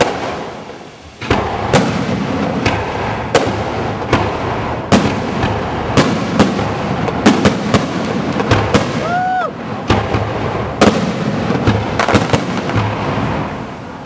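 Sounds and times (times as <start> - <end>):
fireworks crackling and rumbling: 0.0 - 14.0
loud firework bangs: 0.0 - 14.0.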